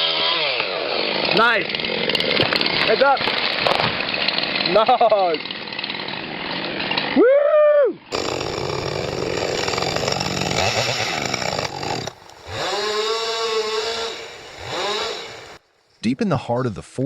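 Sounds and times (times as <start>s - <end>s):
chainsaw cutting at high revs: 0.0s - 7.2s, 8.1s - 15.6s.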